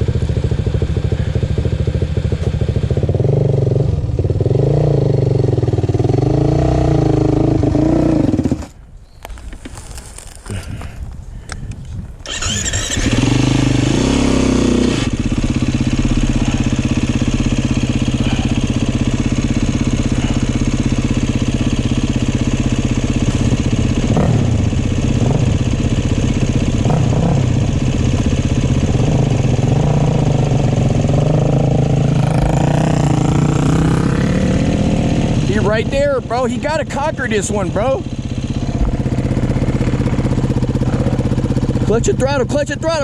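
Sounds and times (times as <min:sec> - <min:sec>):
dirt bike engine: 0:00.0 - 0:43.0.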